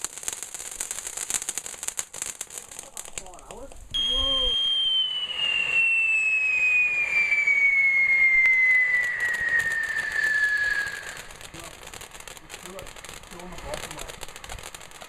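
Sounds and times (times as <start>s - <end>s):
whistling firework: 0.0s - 3.3s, 3.9s - 15.0s.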